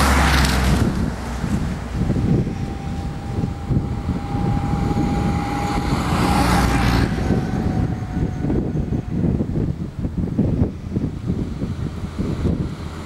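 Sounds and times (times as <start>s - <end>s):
jeep passing close: 0.0s - 13.0s
military vehicles engine rumble: 0.0s - 13.0s
truck approaching: 0.0s - 13.0s.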